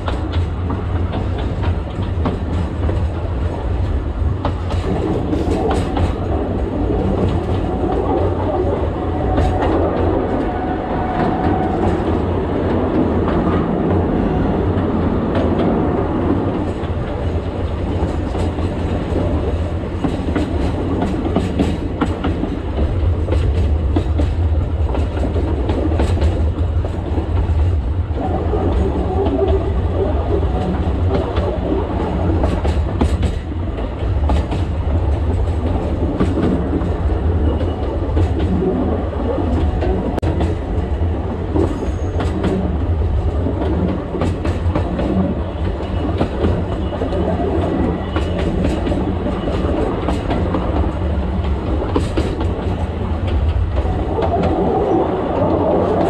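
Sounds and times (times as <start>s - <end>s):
train low rumble: 0.0s - 56.0s.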